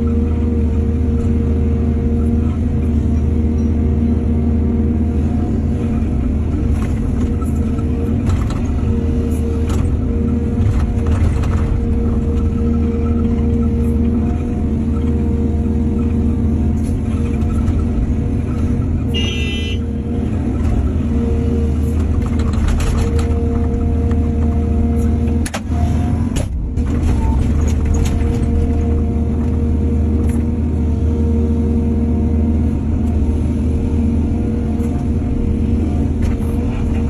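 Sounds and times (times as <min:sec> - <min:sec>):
heavy diesel engine rumbling: 0:00.0 - 0:37.0.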